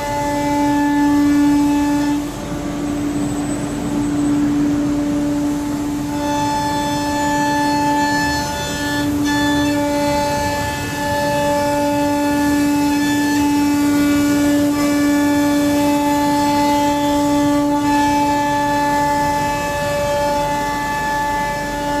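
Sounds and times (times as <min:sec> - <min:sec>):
low rumble of machining: 0:00.0 - 0:22.0
router spindle high whine: 0:00.0 - 0:22.0.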